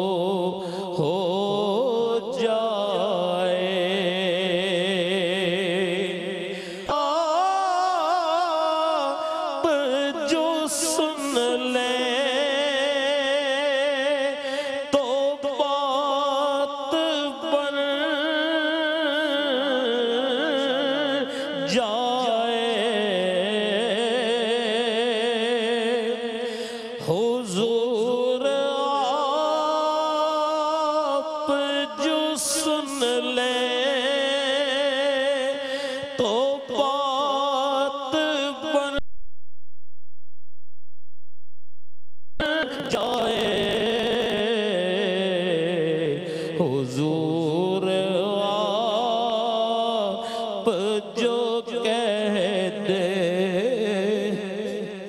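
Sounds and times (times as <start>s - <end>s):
man singing: 0.0s - 39.0s, 42.4s - 55.0s.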